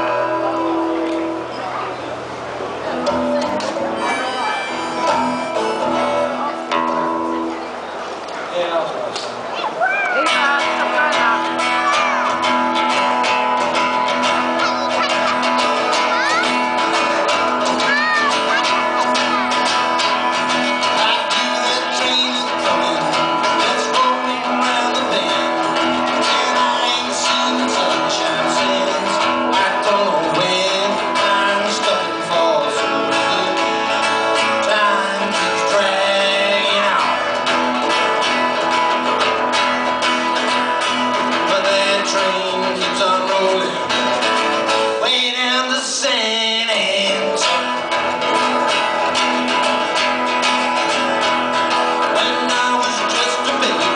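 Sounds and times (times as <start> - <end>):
acoustic guitars strummed: 0.0 - 8.4, 10.1 - 53.9.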